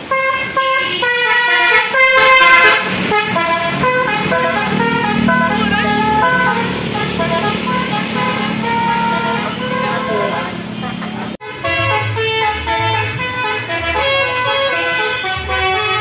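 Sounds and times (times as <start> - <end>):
bus engine: 0.0 - 16.0
multi-tone bus horn melody: 0.0 - 16.0.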